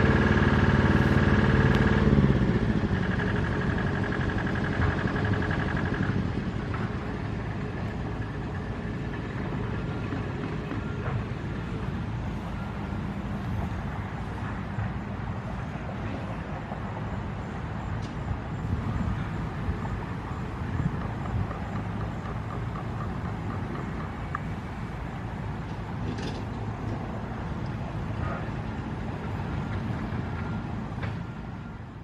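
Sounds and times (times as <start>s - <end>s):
heavy vehicle engine rumble: 0.0s - 32.0s
street traffic: 0.0s - 32.0s.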